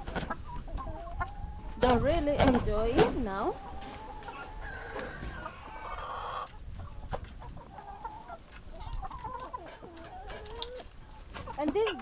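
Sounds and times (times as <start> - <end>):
hens clucking and calling: 0.0 - 12.0
hens pecking: 0.0 - 12.0.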